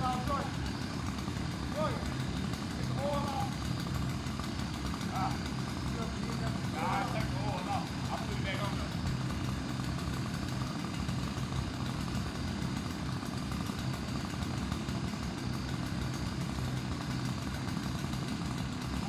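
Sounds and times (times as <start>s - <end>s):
large engine humming: 0.0s - 19.0s.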